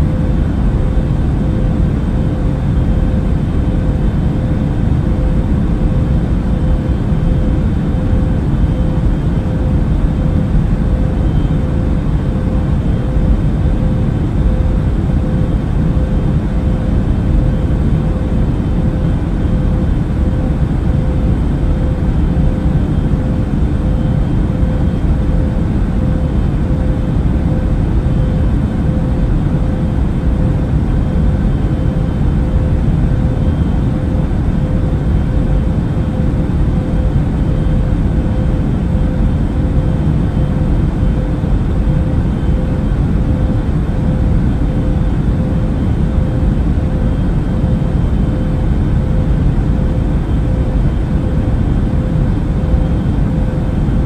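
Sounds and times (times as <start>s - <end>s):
airplane cabin rumble: 0.0s - 54.0s
thin steady hum: 0.0s - 54.0s.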